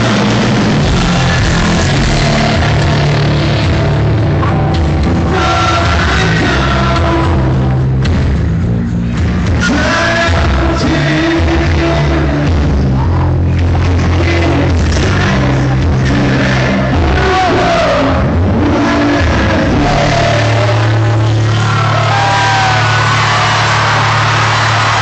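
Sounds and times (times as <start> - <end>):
crowd voices: 0.0 - 25.0
loud distorted rock band: 0.0 - 25.0.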